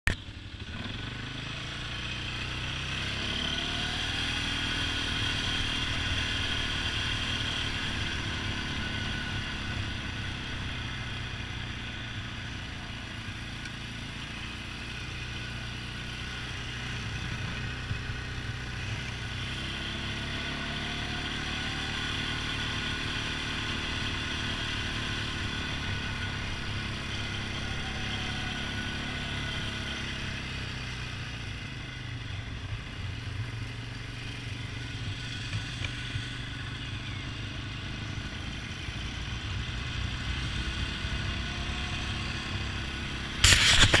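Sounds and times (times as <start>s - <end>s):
atv engine revving: 0.1s - 32.6s, 33.4s - 44.0s.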